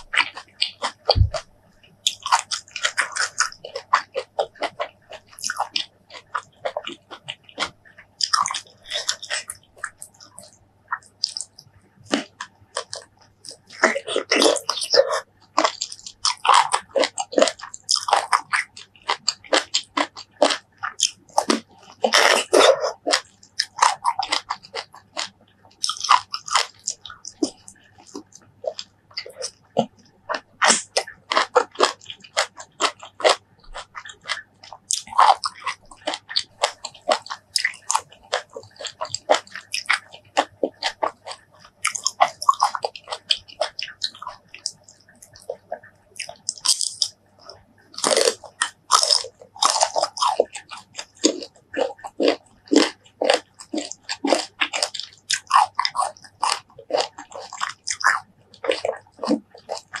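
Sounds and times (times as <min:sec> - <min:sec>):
crunching bites and chewing: 0:00.0 - 1:00.0.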